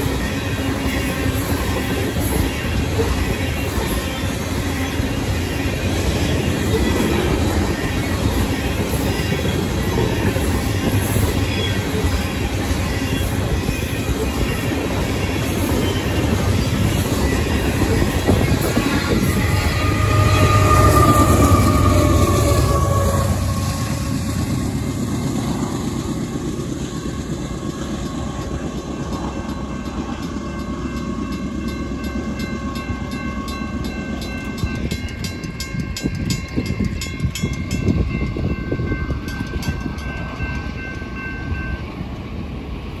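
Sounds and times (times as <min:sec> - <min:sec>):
railroad crossing bells ringing: 0:00.0 - 0:42.8
freight train rumbling past: 0:00.0 - 0:43.0.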